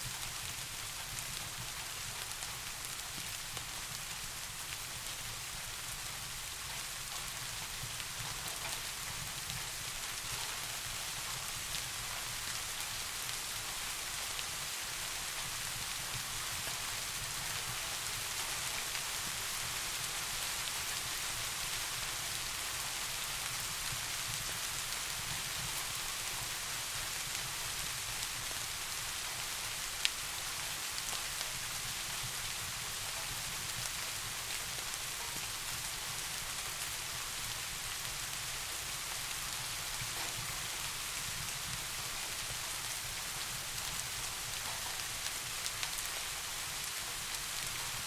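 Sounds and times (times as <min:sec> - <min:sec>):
soft rain falling: 0:00.0 - 0:48.0.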